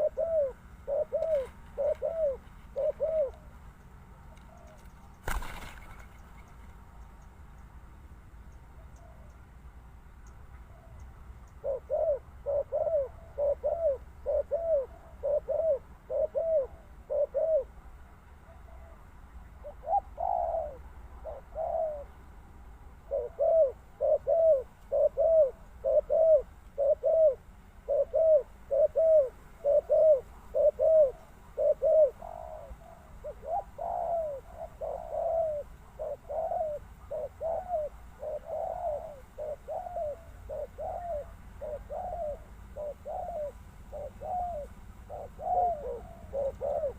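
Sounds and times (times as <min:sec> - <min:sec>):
dove cooing: 0:00.0 - 0:06.1, 0:10.7 - 0:22.2, 0:23.0 - 0:46.9.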